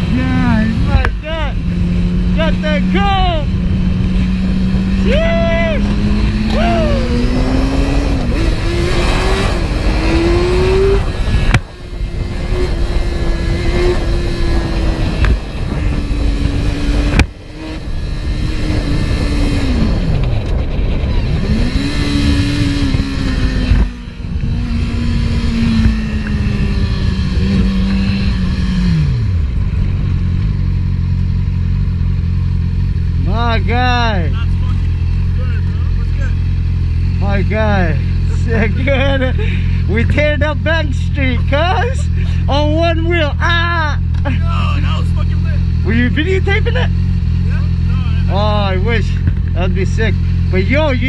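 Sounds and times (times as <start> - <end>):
vehicle engine accelerating: 0.0 - 51.0.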